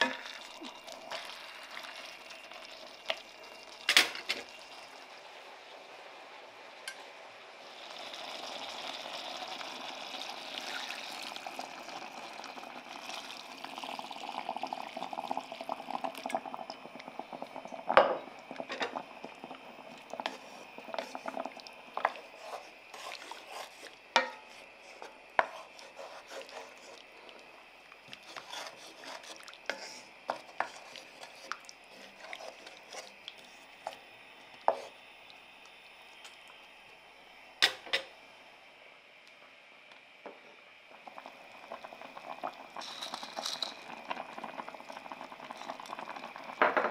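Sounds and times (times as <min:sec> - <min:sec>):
broth hissing in a hot pan: 0:00.0 - 0:38.9, 0:40.3 - 0:46.9.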